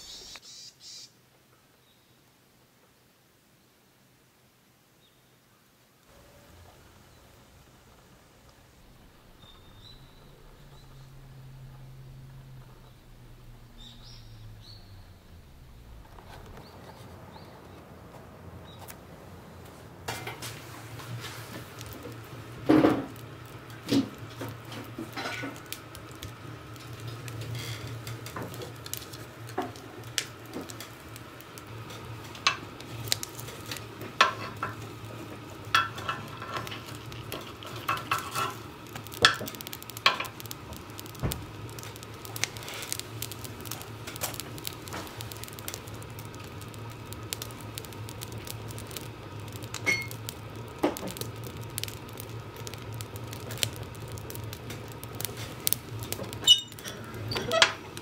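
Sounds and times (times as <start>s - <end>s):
wood fire burning in a stove: 6.0s - 58.0s
low hum: 6.1s - 57.2s.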